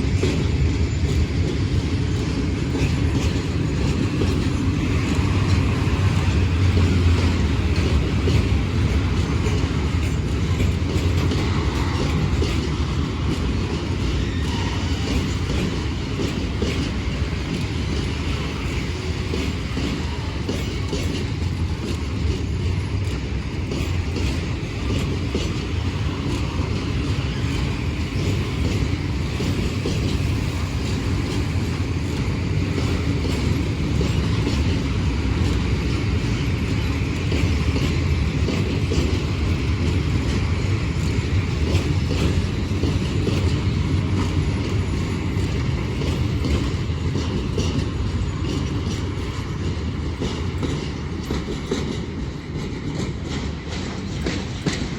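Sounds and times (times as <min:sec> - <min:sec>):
train rumbling on rails: 0:00.0 - 0:54.9
train wheel clicks: 0:00.0 - 0:54.9.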